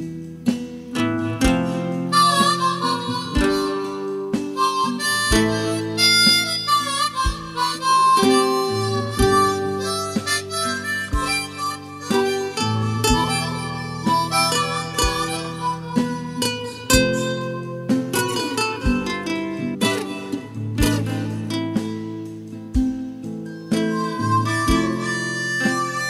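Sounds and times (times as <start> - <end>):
acoustic guitar: 0.0 - 26.0
harmonica melody: 0.0 - 26.0.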